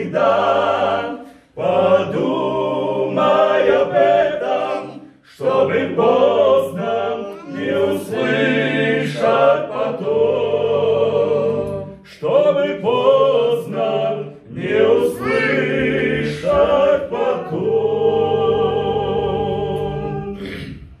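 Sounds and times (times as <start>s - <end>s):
male choir singing: 0.0s - 21.0s.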